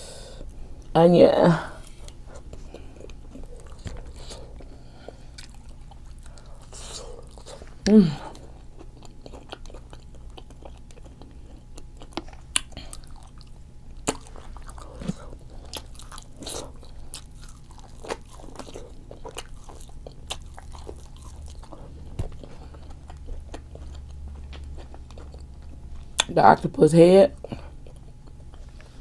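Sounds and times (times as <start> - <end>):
steady low hum: 0.0 - 29.0
chewing and biting food: 1.8 - 26.3, 27.4 - 29.0.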